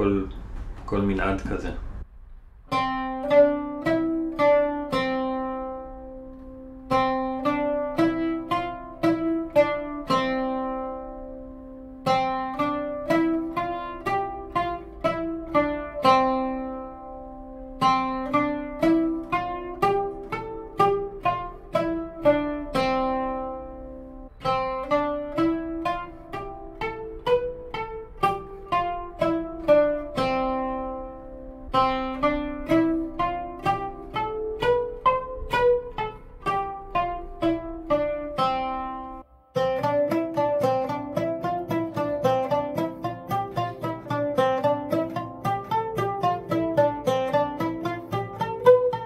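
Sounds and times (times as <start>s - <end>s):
oud plucked notes: 0.0s - 49.0s.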